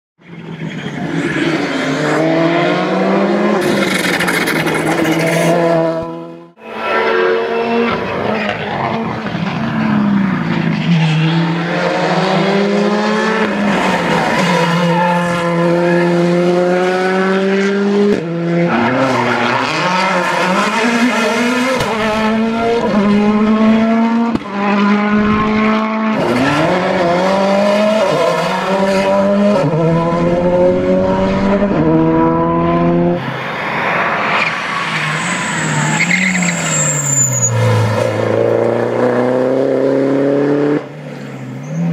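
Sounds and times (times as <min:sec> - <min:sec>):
rally cars accelerating: 0:00.2 - 0:41.9.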